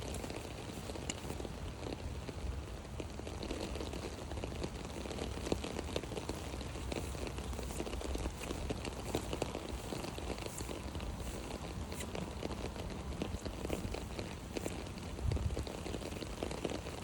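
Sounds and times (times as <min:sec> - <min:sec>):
rain on an umbrella: 0:00.0 - 0:17.0.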